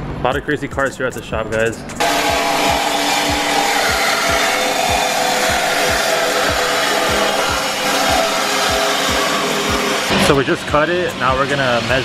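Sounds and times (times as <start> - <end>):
reciprocating saw cutting metal: 2.0 - 12.0.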